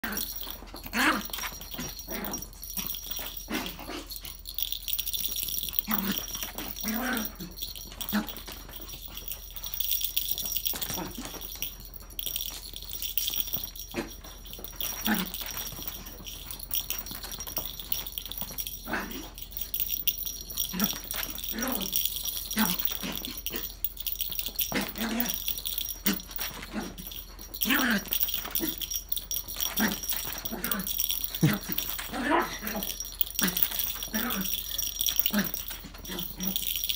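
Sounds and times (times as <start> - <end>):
small dog vocalizing: 0.0 - 4.4, 5.2 - 11.7, 13.2 - 28.9, 29.6 - 36.9.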